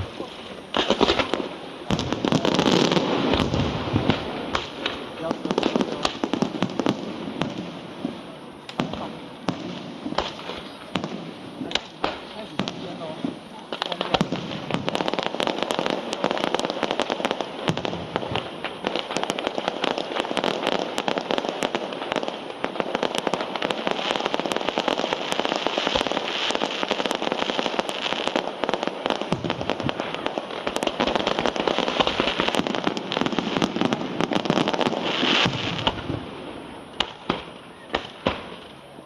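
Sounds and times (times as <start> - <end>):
fireworks crackling and popping: 0.0 - 39.0.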